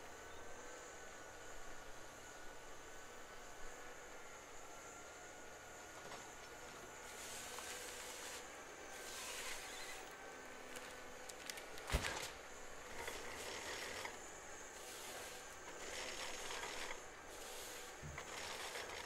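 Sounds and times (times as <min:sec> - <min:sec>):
distant forestry machine hissing: 0:00.3 - 0:19.0.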